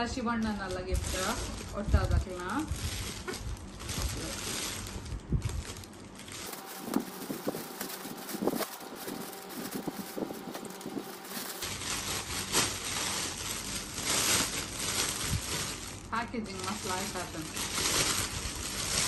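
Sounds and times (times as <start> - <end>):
cellophane wrap crinkling: 0.0 - 19.0.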